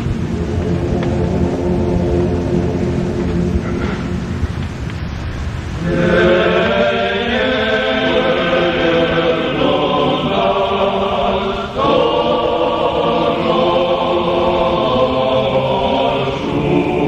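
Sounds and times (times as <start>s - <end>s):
choir singing: 0.0s - 4.8s, 5.7s - 17.0s.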